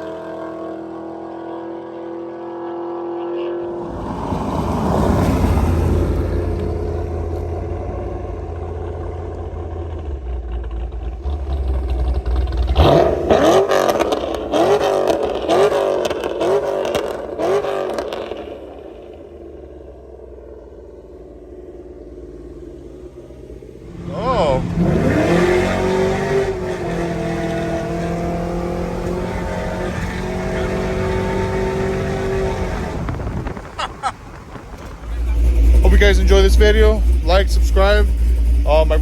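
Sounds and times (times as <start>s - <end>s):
truck exhaust rumbling and crackling: 3.8s - 39.0s.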